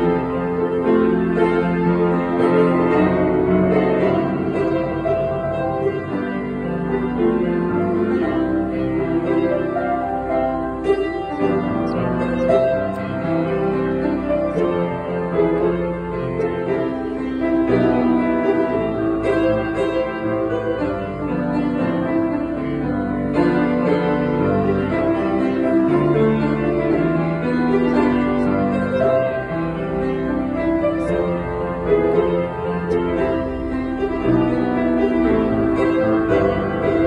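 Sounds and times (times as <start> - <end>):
solo grand piano piece: 0.0 - 37.0.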